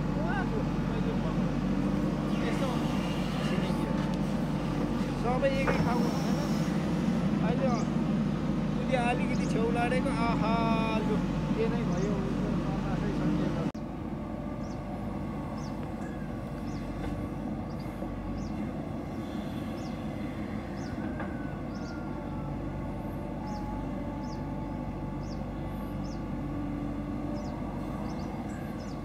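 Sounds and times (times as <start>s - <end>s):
backhoe diesel engine running: 0.0s - 29.0s.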